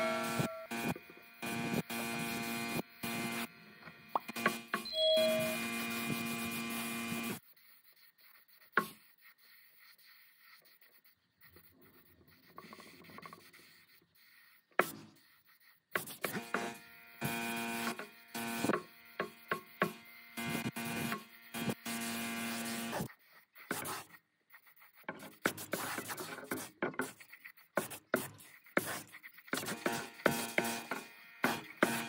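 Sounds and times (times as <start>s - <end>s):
small electric motor humming: 0.0s - 25.4s, 28.3s - 32.0s
rubbing against the work: 5.2s - 32.0s.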